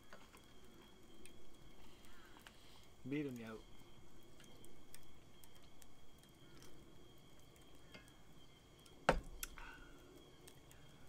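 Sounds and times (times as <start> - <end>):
faint ticks: 0.0 - 8.2, 8.8 - 11.0.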